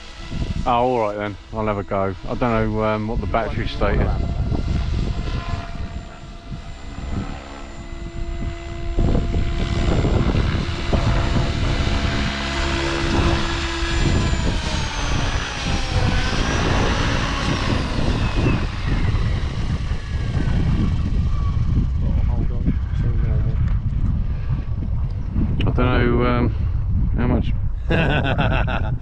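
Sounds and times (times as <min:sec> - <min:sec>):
aircraft motor passing: 0:00.0 - 0:27.0
wind rumble on microphone: 0:00.0 - 0:29.0.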